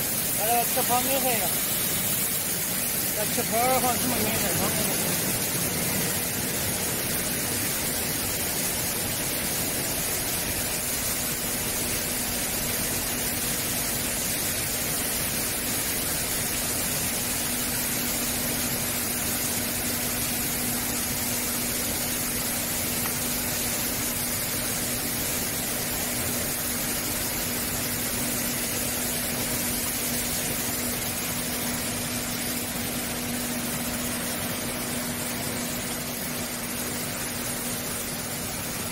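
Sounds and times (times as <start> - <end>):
spraying water hiss: 0.0 - 38.9.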